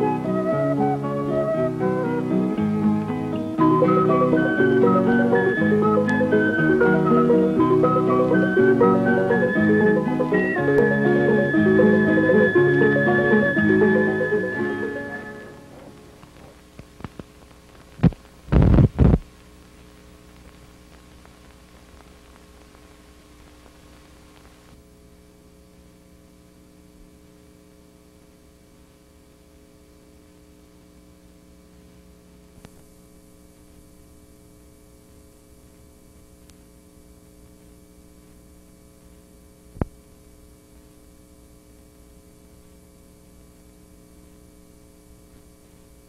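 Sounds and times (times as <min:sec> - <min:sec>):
electrical mains hum: 0:00.0 - 0:46.0
faint tape hiss: 0:00.0 - 0:46.0.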